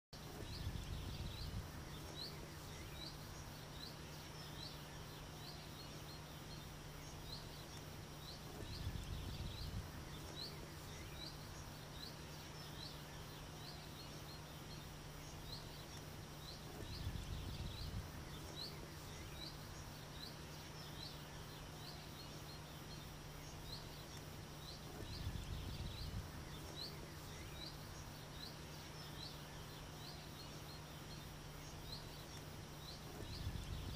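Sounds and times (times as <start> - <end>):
thin high hum: 0.2 - 33.9.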